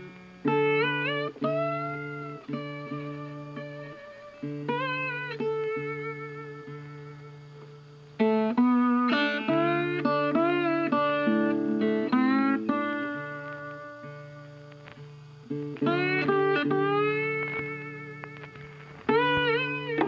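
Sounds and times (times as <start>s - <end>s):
jazz guitar plucked melody: 0.0s - 20.0s.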